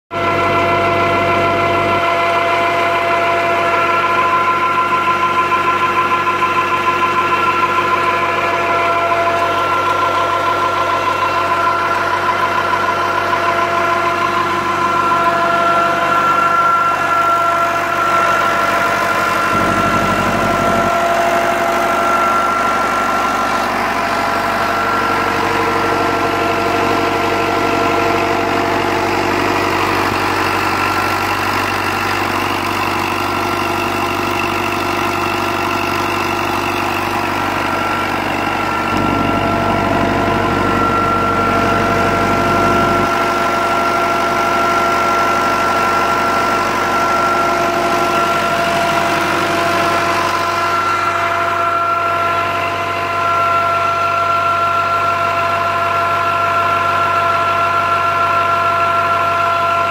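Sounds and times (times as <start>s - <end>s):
tractor diesel engine running: 0.1s - 59.9s.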